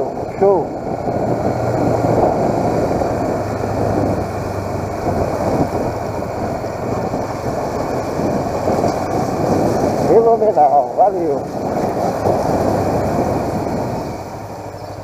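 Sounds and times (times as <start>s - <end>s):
motorcycle engine humming: 0.0s - 15.0s
wind buffeting microphone: 0.0s - 15.0s.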